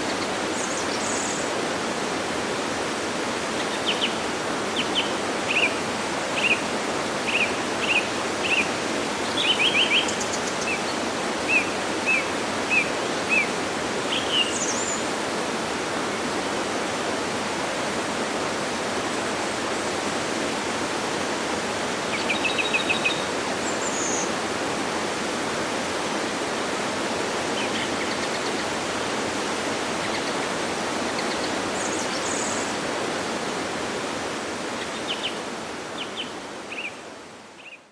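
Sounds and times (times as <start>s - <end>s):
waterfall rushing: 0.0s - 37.5s.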